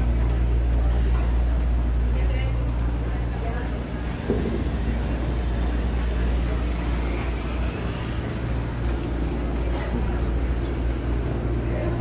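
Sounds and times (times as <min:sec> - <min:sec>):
boat machinery droning: 0:00.0 - 0:12.0.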